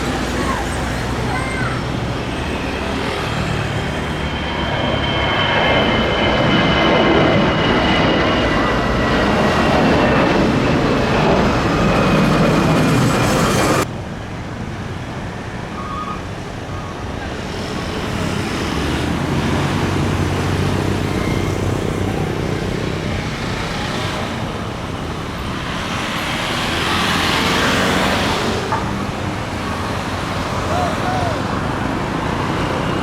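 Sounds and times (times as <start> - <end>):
jet engines roaring: 0.0 - 33.0
traffic noise: 0.0 - 33.0.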